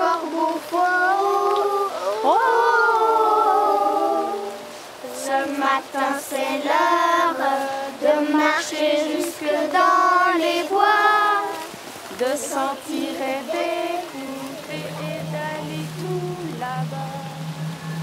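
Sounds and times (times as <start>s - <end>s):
young children singing: 0.0s - 18.0s.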